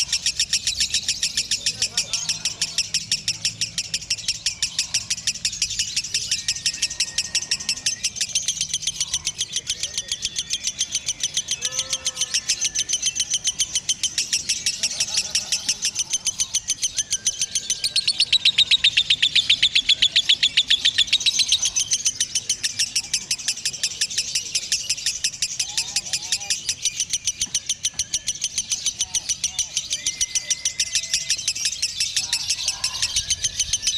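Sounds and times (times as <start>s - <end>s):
lovebird chattering: 0.0s - 33.9s.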